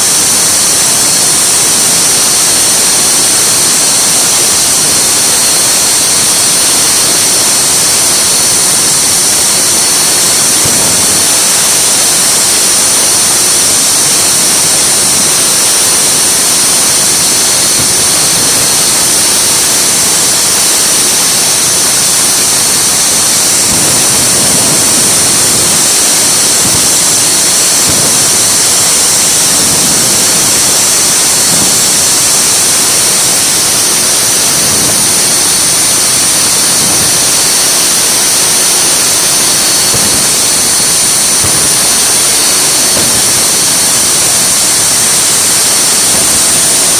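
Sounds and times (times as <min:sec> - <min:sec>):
jet engines rushing with whine: 0:00.0 - 0:46.9.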